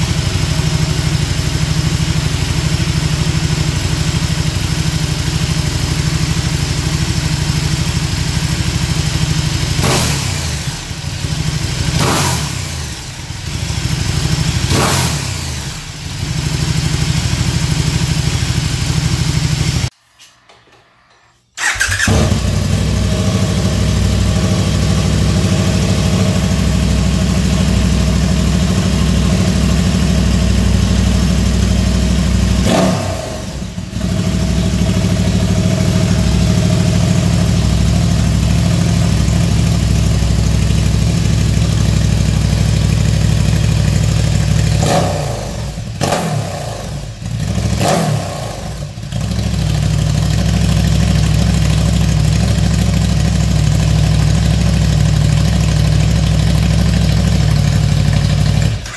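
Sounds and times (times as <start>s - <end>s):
motorcycle engine idling and revving: 0.0s - 19.9s, 21.6s - 58.9s.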